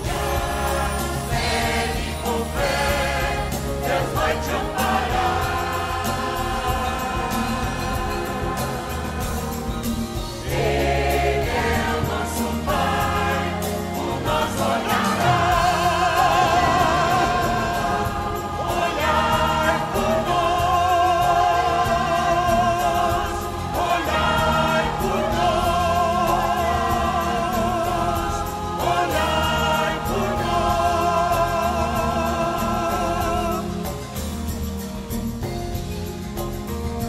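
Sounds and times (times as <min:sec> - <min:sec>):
choir singing a hymn: 0:00.0 - 0:34.6
instrumental accompaniment: 0:00.0 - 0:37.0.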